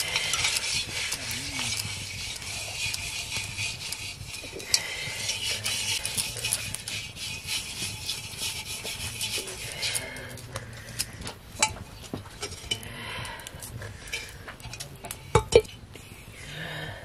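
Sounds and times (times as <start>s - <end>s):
utensil scraping: 0.0s - 16.3s.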